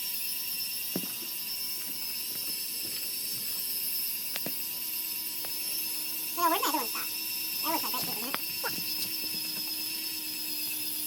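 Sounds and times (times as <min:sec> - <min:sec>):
toy electric motors whining: 0:00.0 - 0:11.0.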